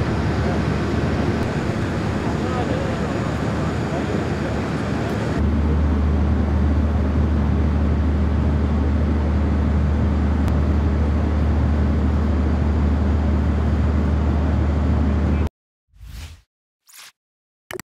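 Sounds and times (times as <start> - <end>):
low mechanical hum with hiss: 0.0 - 15.5.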